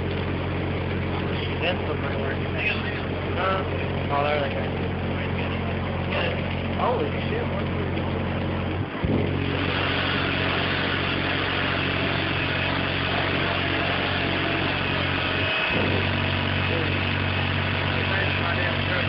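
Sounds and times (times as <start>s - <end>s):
subwoofer low bass tone: 0.0s - 19.0s.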